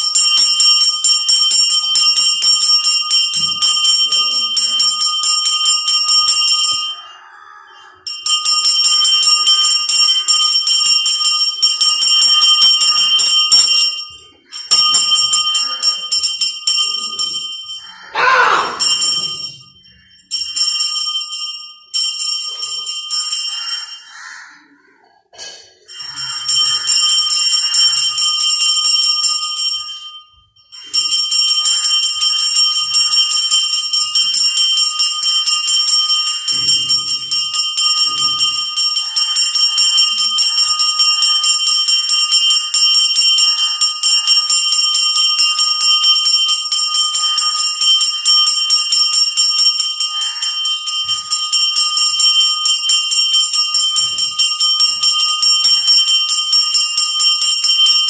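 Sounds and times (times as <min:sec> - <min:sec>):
bell ringing rapidly: 0:00.0 - 0:07.1, 0:07.8 - 0:24.0, 0:25.8 - 0:58.0.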